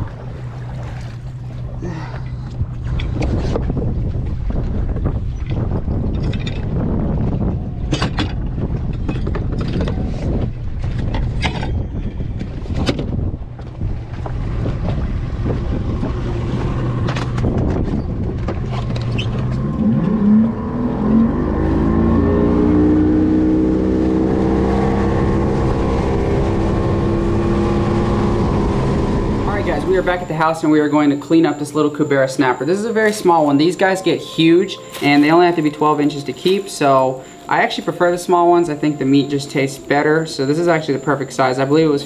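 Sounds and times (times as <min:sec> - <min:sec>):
outboard motor running: 0:00.0 - 0:42.0
water noise: 0:00.0 - 0:42.0
wind: 0:00.0 - 0:42.0.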